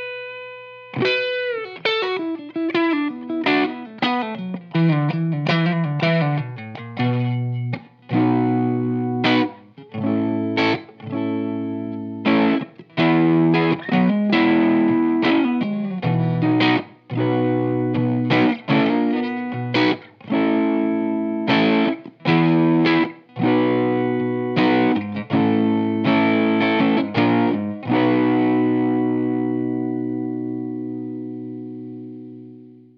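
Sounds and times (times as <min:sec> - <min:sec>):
distorted electric guitar chords: 0:00.0 - 0:32.9.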